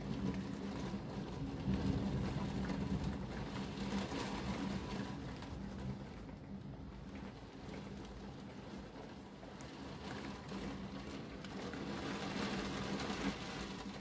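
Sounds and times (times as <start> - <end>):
faint taps of raindrops: 0.0 - 14.0
heavy rain through window: 0.0 - 14.0.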